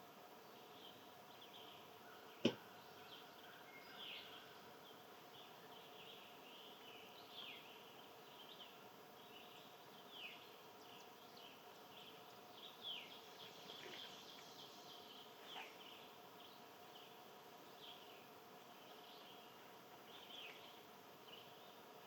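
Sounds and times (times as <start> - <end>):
songbird chirps: 0.0 - 22.0.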